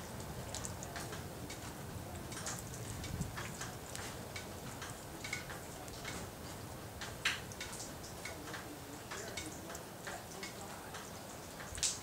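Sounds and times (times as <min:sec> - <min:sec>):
rainwater dripping on hard surface: 0:00.0 - 0:12.0.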